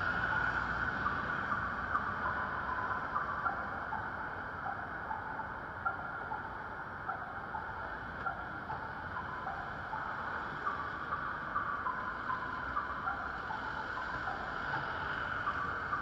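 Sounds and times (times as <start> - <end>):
vehicles passing on wet road: 0.0 - 6.6, 7.7 - 16.0
traffic hum: 0.0 - 16.0.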